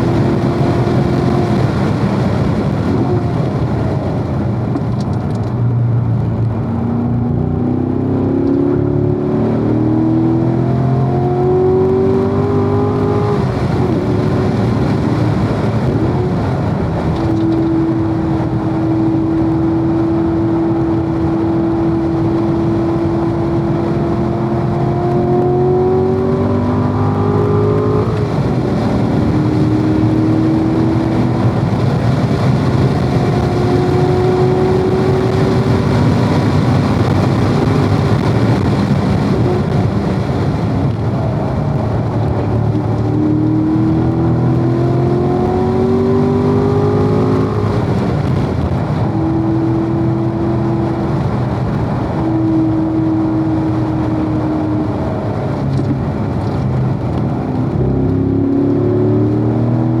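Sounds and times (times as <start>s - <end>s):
car engine revving through gears: 0.0s - 60.0s
wind rush: 0.0s - 60.0s.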